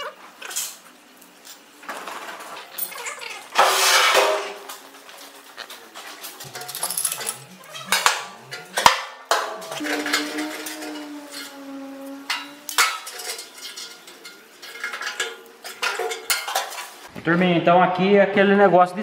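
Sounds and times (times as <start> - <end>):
metal clanks and rattles: 1.8 - 17.1.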